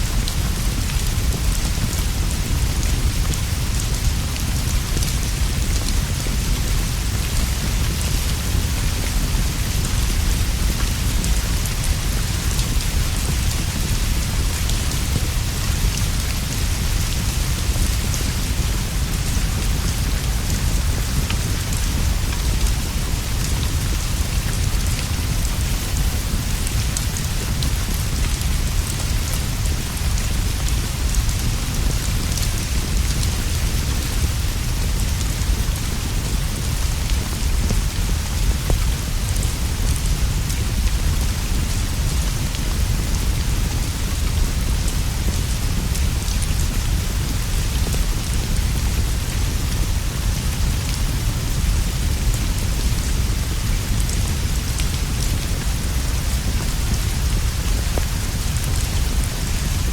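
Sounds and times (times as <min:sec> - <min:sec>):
rain on leaves and roof: 0:00.0 - 0:59.9.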